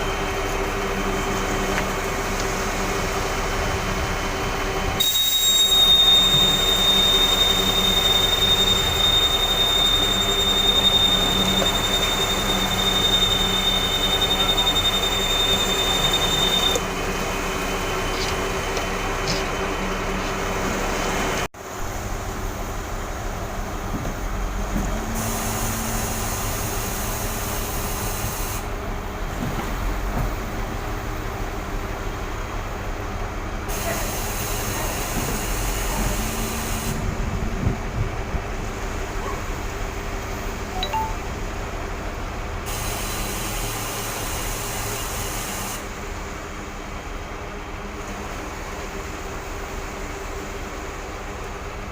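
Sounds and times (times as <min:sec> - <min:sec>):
heavy diesel machinery running: 0:00.0 - 0:51.9.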